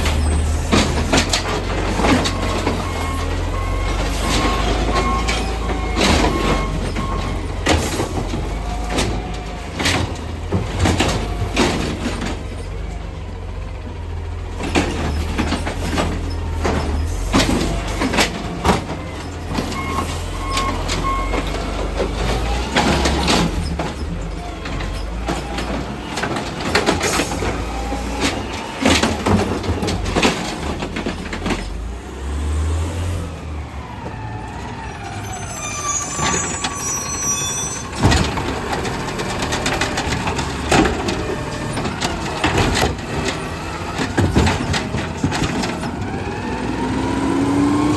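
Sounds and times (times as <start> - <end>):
trash cans banging: 0.0 - 12.8, 14.5 - 31.9, 37.8 - 47.9
diesel engine rumbling: 0.0 - 47.9
hydraulic whining and squealing: 0.0 - 47.9.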